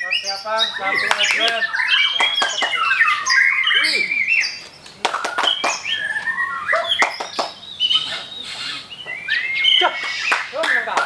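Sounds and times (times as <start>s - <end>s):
songbirds whistling and clicking: 0.0s - 11.0s.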